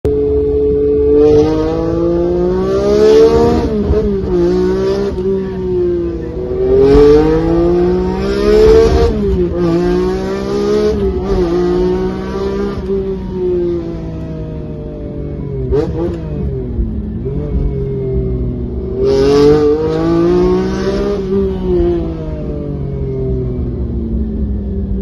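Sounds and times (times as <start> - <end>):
car engine accelerating through gears: 0.1 - 24.2.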